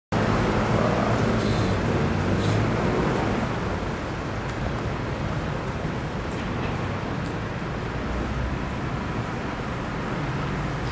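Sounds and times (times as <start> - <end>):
traffic rumble: 0.1 - 10.9
vehicle engine hum: 0.2 - 10.9.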